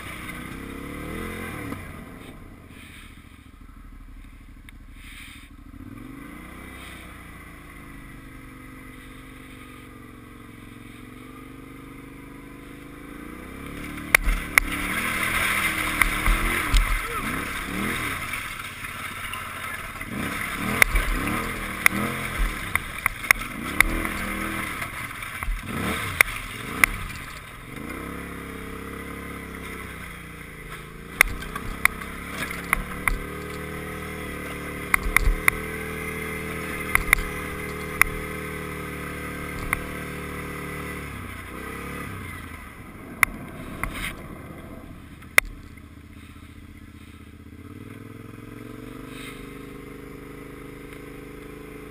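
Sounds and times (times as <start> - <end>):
quad engine revving: 0.0 - 51.9.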